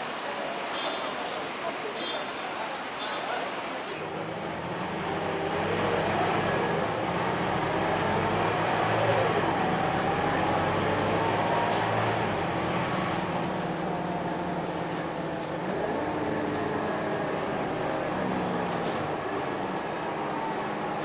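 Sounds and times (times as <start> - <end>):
road noise: 0.0 - 21.0
bus engine drone with whine: 3.7 - 21.0.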